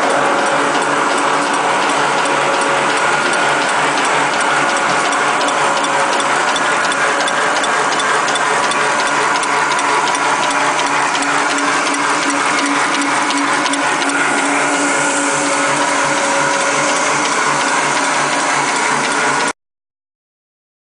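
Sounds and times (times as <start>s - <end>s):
fast even ticking: 0.0s - 19.5s
machine hum: 0.0s - 19.6s.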